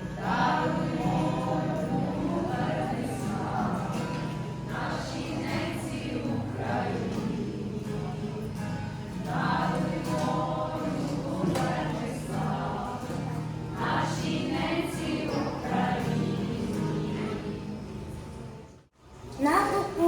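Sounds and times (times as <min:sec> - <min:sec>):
choir singing a slow hymn: 0:00.0 - 0:18.5.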